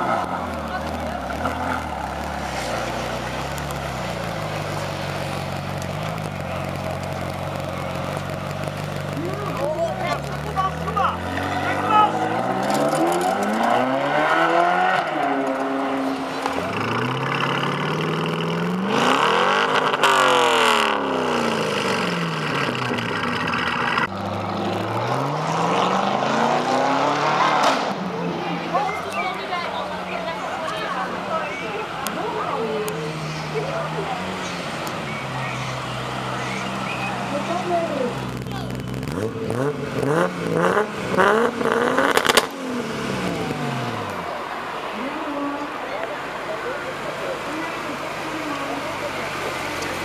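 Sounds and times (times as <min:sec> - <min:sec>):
car engine pulling away: 0:00.0 - 0:50.0.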